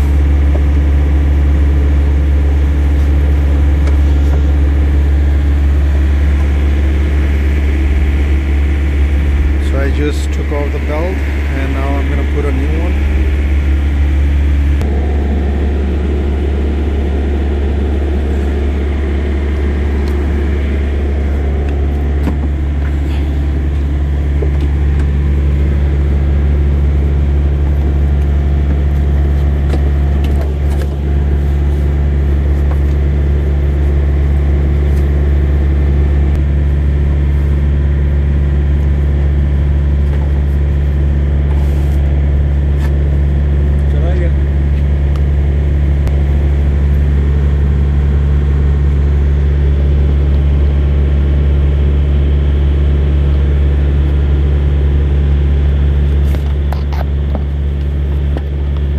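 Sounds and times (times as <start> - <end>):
diesel engine idling: 0.0 - 58.9.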